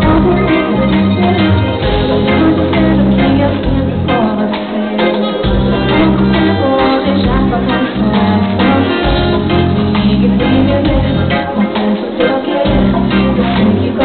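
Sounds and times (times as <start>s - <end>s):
live pop band: 0.0s - 14.0s.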